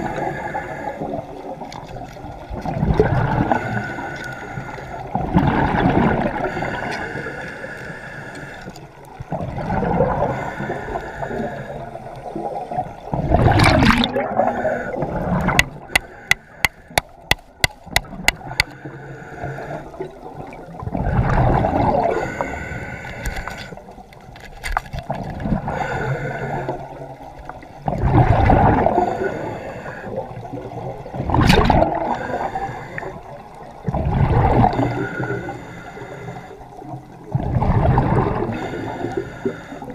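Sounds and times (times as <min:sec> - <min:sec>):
water rushing underwater: 0:00.0 - 0:39.9.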